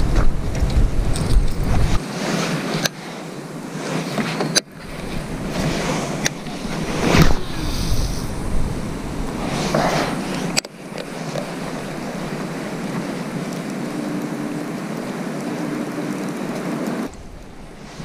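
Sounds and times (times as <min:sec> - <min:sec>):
wind over microphone: 0:00.0 - 0:03.0, 0:03.6 - 0:18.0.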